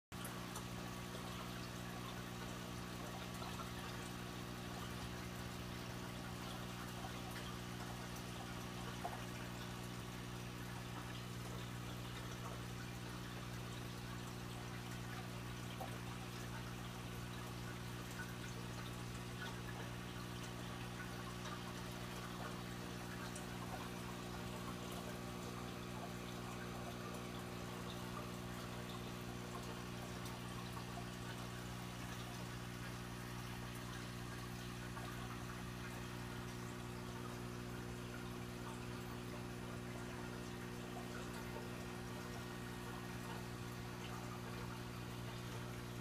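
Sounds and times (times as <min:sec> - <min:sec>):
filter low hum: 0:00.2 - 0:46.0
water drips: 0:00.2 - 0:46.0
water trickling: 0:00.2 - 0:46.0.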